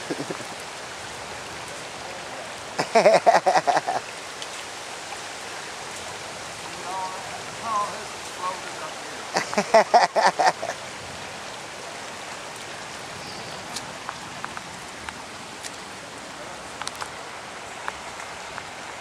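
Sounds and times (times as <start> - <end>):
rain and running water: 0.0 - 19.0.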